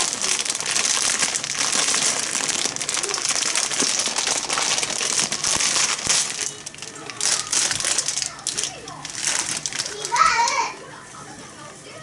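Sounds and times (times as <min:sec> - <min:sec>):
wood fire crackling: 0:00.0 - 0:10.8.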